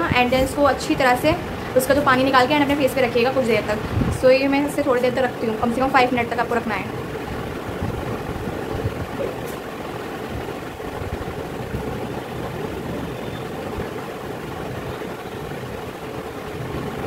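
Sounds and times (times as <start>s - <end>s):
machine humming and rumbling: 0.0s - 17.0s.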